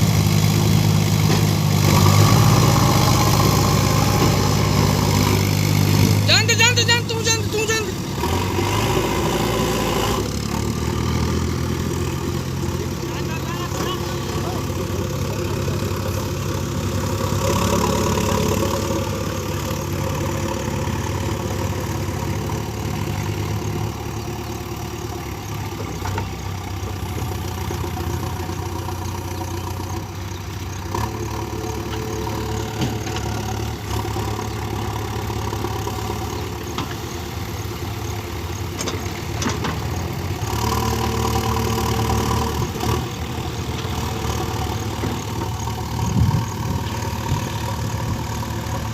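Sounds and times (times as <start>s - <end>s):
heavy diesel engine revving: 0.0s - 48.9s.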